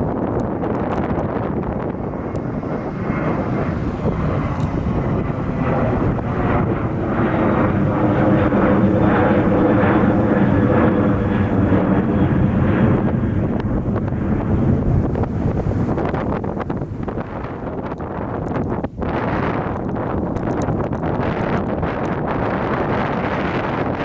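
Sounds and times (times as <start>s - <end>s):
jet engines passing close: 0.0s - 24.0s.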